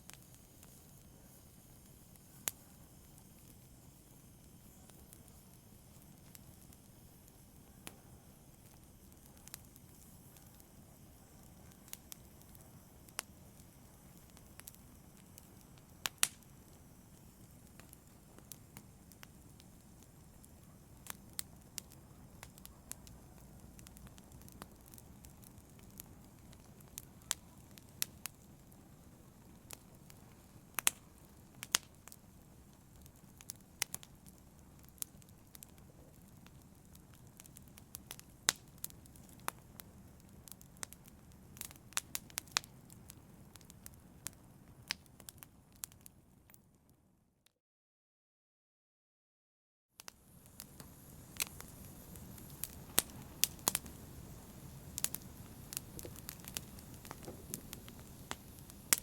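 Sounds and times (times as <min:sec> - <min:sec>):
fire crackling and popping: 0:00.0 - 0:46.9, 0:50.0 - 0:59.0
low rumble of flames: 0:00.1 - 0:46.5, 0:50.1 - 0:59.0.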